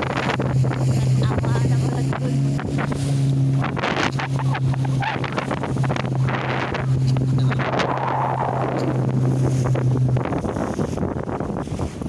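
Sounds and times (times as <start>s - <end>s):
boat engine droning: 0.0s - 12.0s
water splashing at the hull: 0.0s - 12.0s
wind buffeting the microphone: 0.0s - 12.0s.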